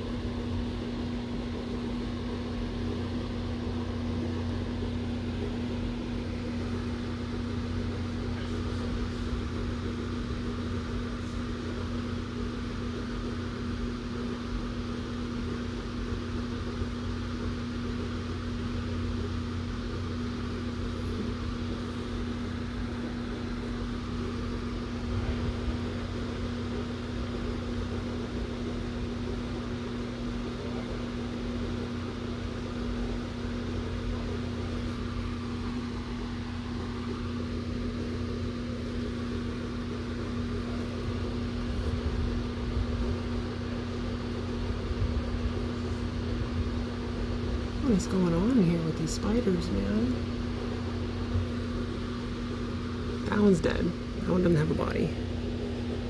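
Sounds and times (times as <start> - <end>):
electric fan whirring: 0.0 - 56.0.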